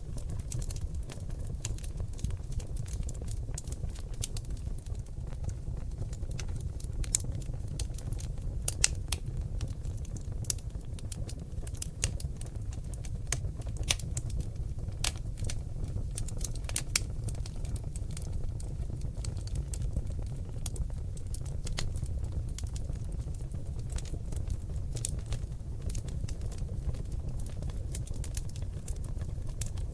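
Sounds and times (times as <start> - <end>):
logs crackling and popping: 0.0 - 29.9
low rumble of flames: 0.0 - 29.9.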